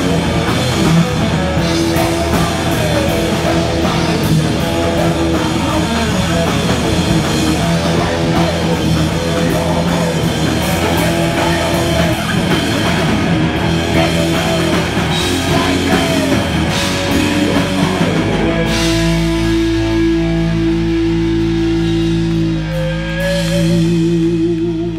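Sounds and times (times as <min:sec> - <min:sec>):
distorted electric guitars: 0:00.0 - 0:24.9
drum kit playing: 0:00.0 - 0:24.9.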